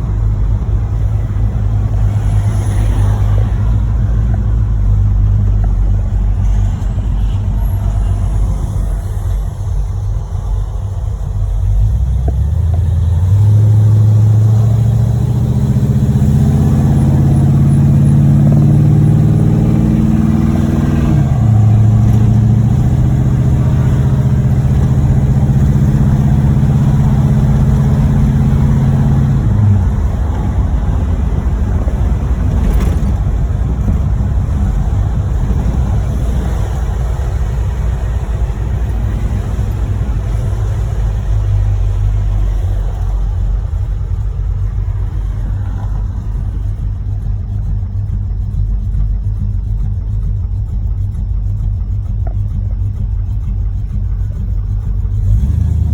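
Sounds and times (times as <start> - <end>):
car engine accelerating hard: 0.0 - 55.9
road rumble: 0.0 - 55.9.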